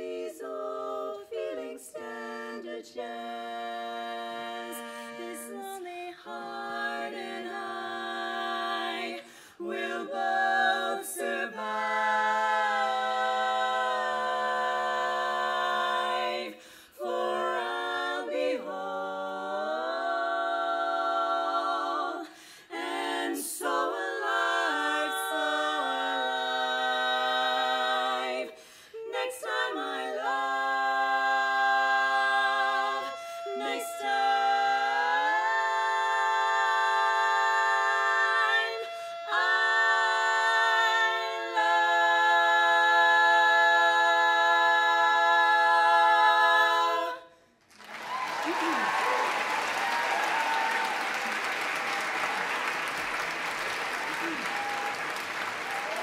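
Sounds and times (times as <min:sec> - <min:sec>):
women singing close harmony: 0:00.0 - 0:47.4, 0:48.0 - 0:51.1.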